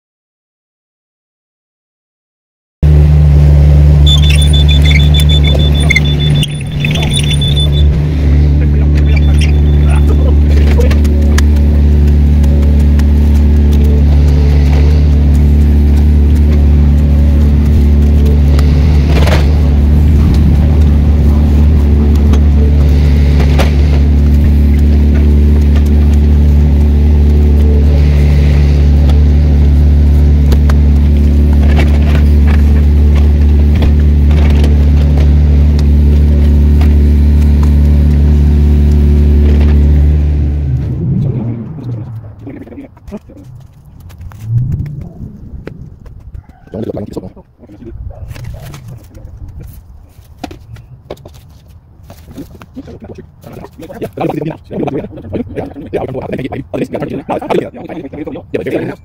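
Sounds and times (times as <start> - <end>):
engine low drone: 2.8 - 59.0.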